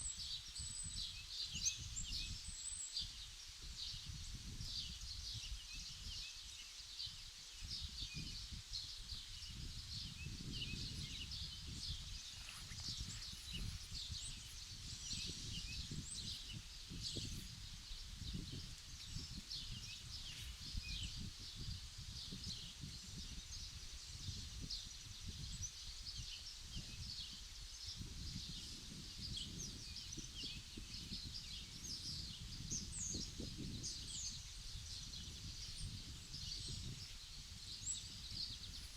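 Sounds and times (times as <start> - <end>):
small birds chirping and twittering: 0.0 - 38.9
wind rumble on microphone: 0.0 - 38.9.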